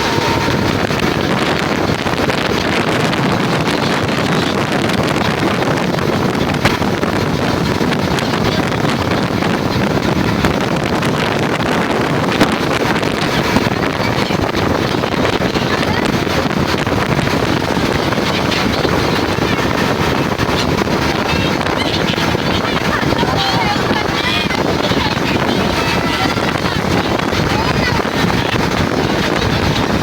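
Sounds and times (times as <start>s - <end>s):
boat running: 0.0s - 30.0s
wind buffeting microphone: 0.0s - 30.0s.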